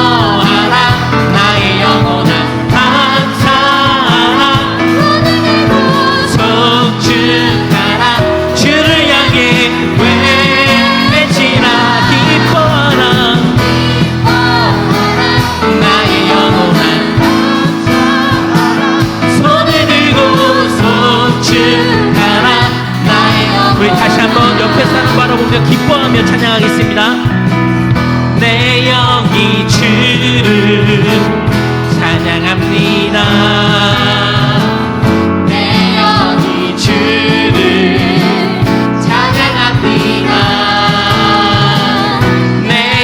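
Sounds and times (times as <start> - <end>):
worship band music: 0.0 - 43.0.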